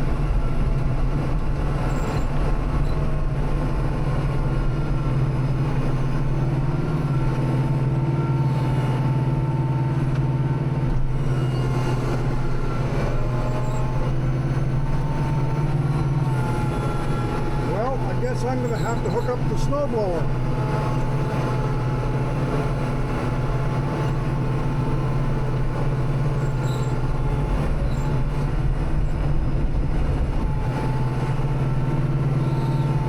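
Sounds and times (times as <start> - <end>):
tractor diesel engine under load: 0.0 - 33.0
tractor dragging through snow: 0.0 - 33.0.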